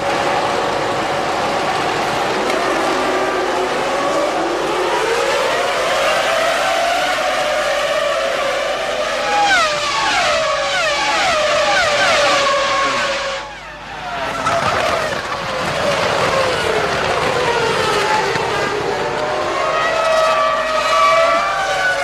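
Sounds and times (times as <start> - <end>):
racing car engine at high revs: 0.0 - 22.0
racing car engine downshifting: 0.0 - 22.0.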